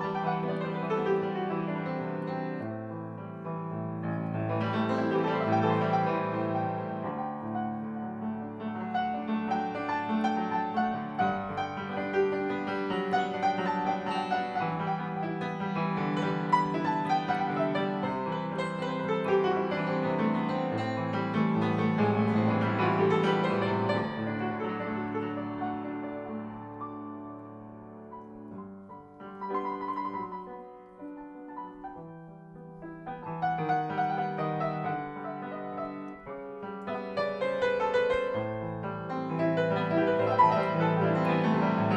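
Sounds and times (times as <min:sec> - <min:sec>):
grand piano playing: 0:00.0 - 0:41.9.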